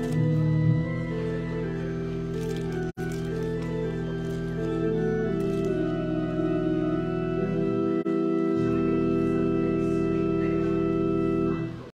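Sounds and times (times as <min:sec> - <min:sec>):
church organ playing chords: 0:00.0 - 0:11.9.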